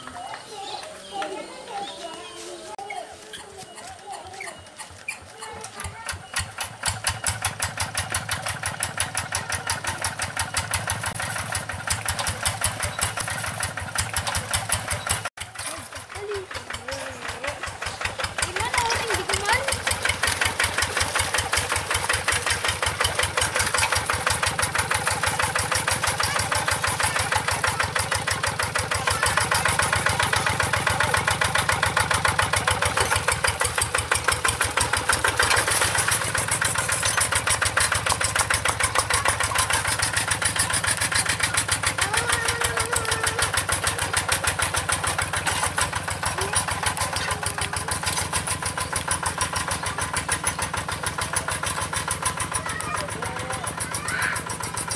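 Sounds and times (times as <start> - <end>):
diesel engine chugging: 0.0 - 54.9.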